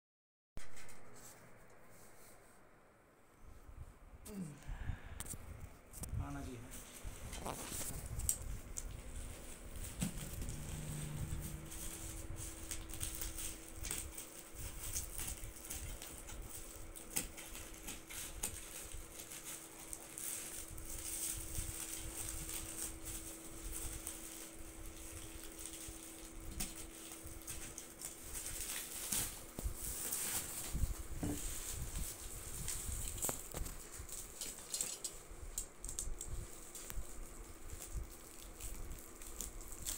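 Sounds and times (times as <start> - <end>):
plastic wrap crackling: 6.8 - 39.9.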